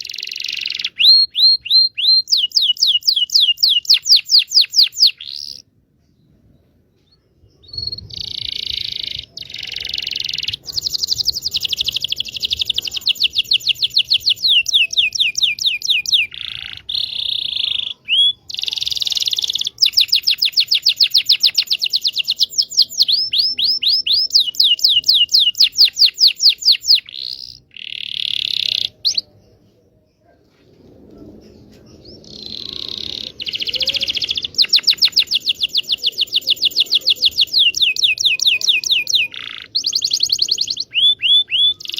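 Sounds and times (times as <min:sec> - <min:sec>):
canary singing trills: 0:00.0 - 0:05.7, 0:07.6 - 0:30.4, 0:31.5 - 0:41.9.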